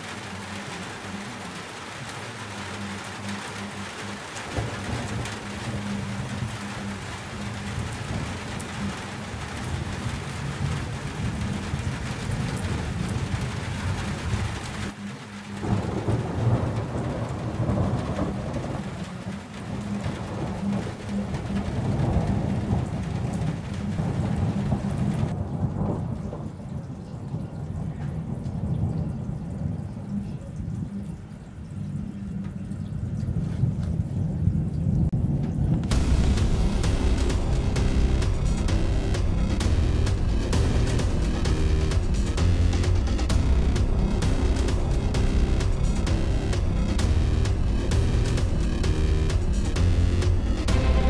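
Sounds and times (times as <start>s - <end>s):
rain hissing: 0.0s - 32.7s, 34.3s - 51.0s
low rolling thunder: 4.5s - 15.0s, 15.6s - 31.0s, 33.3s - 51.0s.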